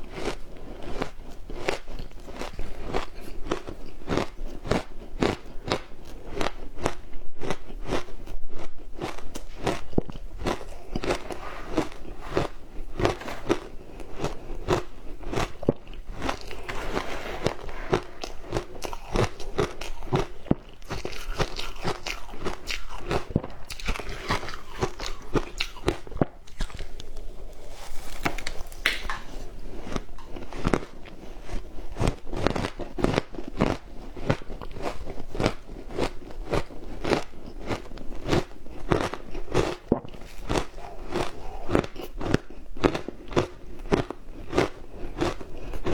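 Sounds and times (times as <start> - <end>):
ice crunching while chewed: 0.0 - 45.9.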